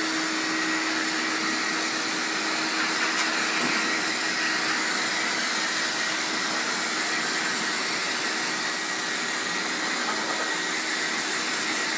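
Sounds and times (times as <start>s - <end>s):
dryer air rushing: 0.0s - 11.9s.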